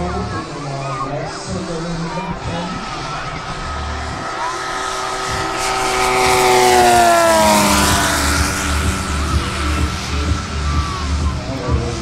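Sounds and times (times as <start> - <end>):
model plane engine passing: 0.0 - 12.0.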